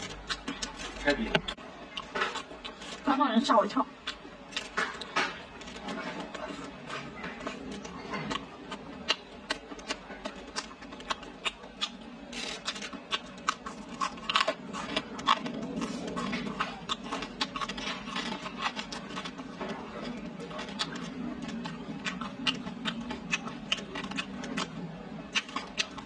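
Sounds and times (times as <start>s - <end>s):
chewing and lip-smacking: 0.0s - 3.1s, 3.9s - 26.0s.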